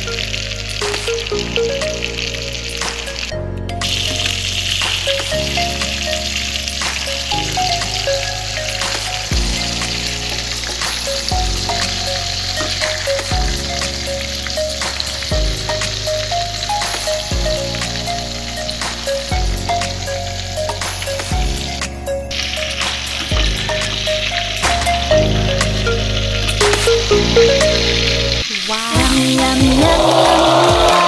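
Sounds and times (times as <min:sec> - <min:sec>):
background music with bass line: 0:00.0 - 0:28.4, 0:29.0 - 0:31.0
chicken deep-frying in oil: 0:00.0 - 0:31.0.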